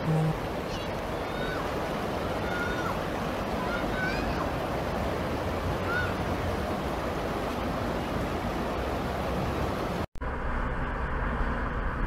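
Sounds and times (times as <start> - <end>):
floodwater rushing over stones: 0.0 - 10.1.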